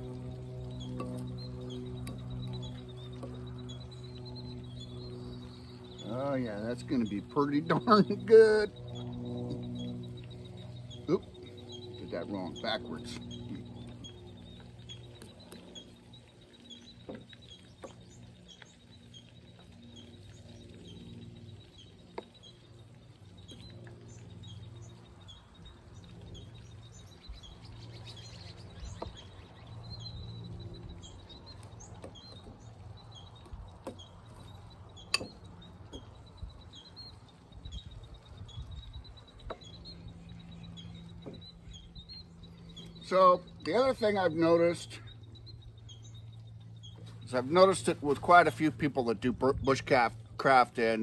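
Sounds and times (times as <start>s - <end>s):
low steady hum: 0.0s - 51.0s
small birds chirping: 0.0s - 51.0s.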